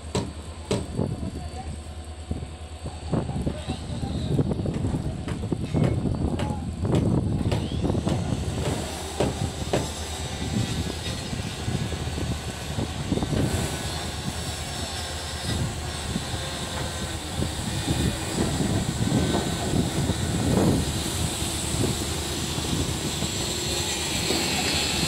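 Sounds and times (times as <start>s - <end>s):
low knocks of train wheels: 0.0s - 1.4s, 3.2s - 25.0s
railway coach rolling on track: 0.0s - 25.0s.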